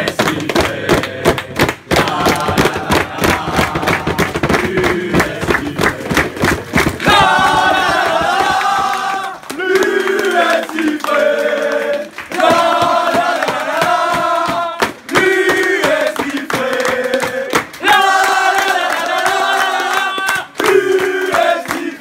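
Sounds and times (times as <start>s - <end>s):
group chanting: 0.0s - 22.0s
hand-clapping: 0.0s - 22.0s.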